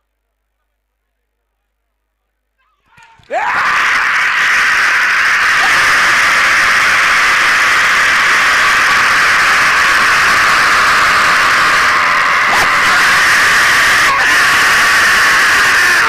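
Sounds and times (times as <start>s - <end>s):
huge crowd screaming and shouting: 3.1s - 16.0s.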